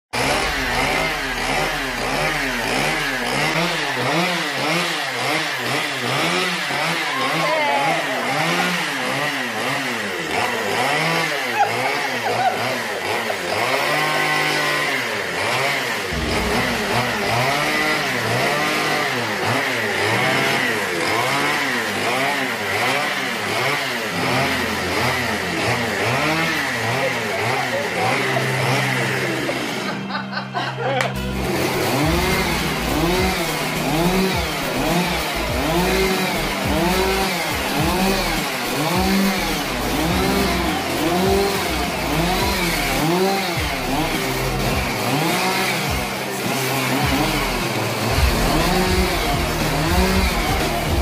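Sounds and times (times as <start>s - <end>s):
chainsaw engine revving: 0.1s - 30.6s, 31.2s - 51.0s.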